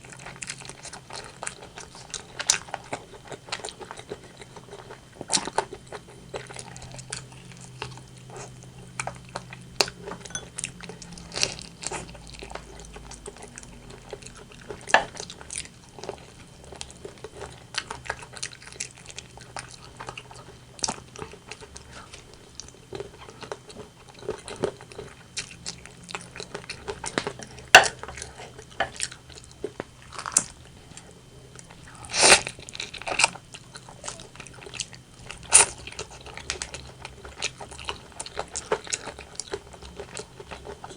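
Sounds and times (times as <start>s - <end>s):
chewing and biting chicken: 0.0s - 40.9s.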